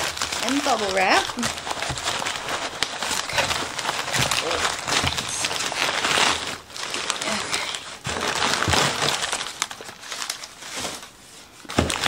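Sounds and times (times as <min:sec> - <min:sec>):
paper and bubble wrap crinkling: 0:00.0 - 0:12.0.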